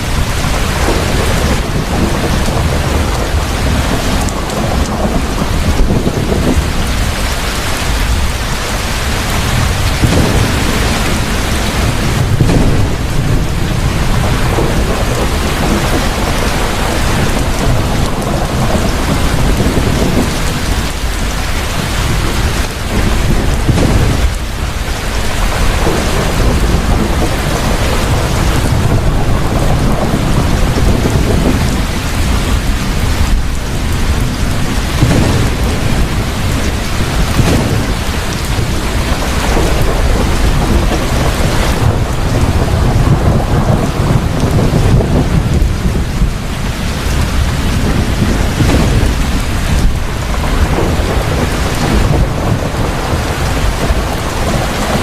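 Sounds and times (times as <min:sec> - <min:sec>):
heavy rain: 0:00.0 - 0:55.0
thunder rumbling: 0:00.0 - 0:55.0.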